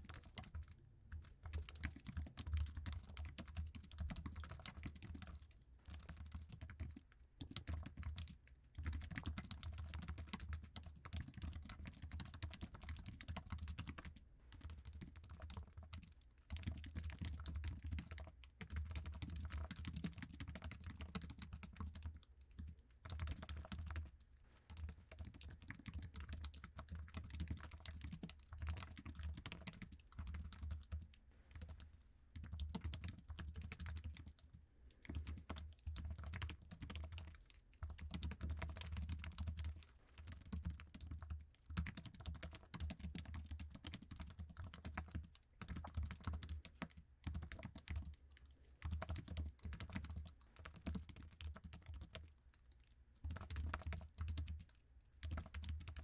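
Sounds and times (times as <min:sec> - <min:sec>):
fast keyboard typing: 0:00.0 - 0:56.0.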